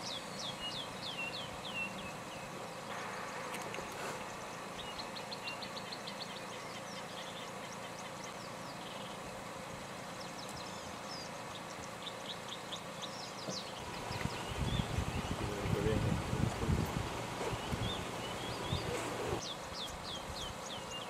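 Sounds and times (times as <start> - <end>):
small birds chirping: 0.0 - 21.0
steady background hiss: 0.0 - 21.0.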